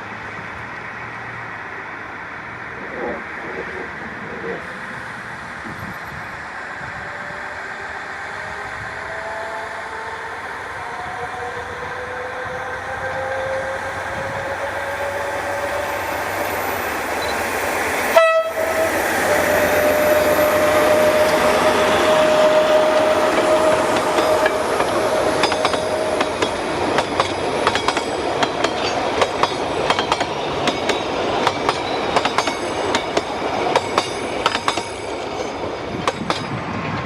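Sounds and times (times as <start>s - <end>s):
diesel train approaching: 0.0s - 37.0s.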